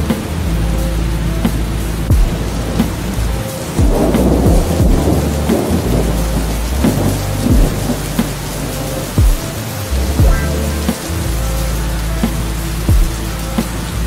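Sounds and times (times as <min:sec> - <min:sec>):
low steady drone: 0:00.0 - 0:14.0
steady rain: 0:00.0 - 0:14.0
thunder rolling: 0:00.0 - 0:14.0.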